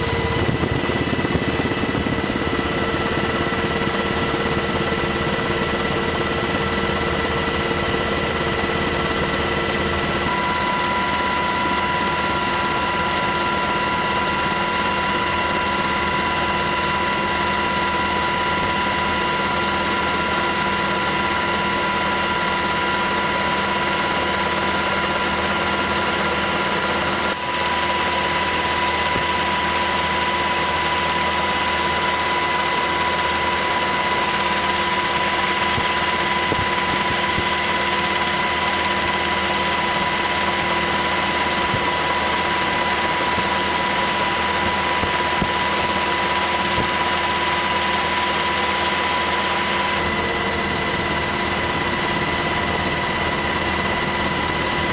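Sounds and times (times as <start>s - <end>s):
aircraft turbine engine drone: 0.0s - 54.9s.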